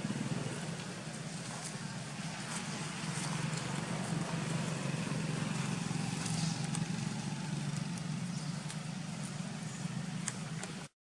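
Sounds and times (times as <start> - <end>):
engine droning: 0.0 - 10.9.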